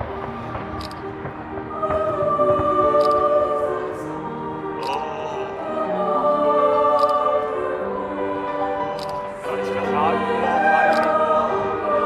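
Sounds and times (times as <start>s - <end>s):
choir singing long notes: 0.0s - 12.0s.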